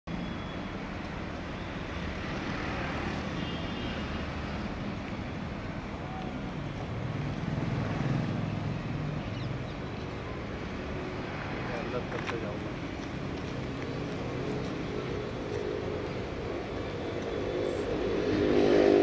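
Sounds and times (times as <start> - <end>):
road traffic rumble: 0.1 - 19.0.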